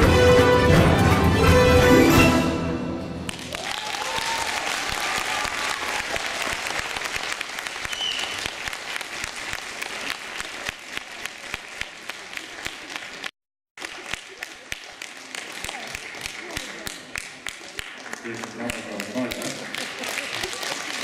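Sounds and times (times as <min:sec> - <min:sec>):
audience applauding: 0:03.2 - 0:21.0.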